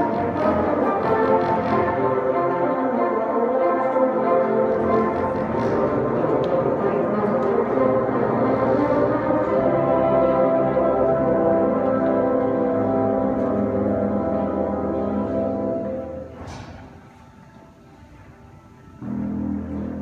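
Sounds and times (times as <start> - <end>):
bassoon ensemble playing held chords: 0.0 - 17.2, 18.1 - 20.0.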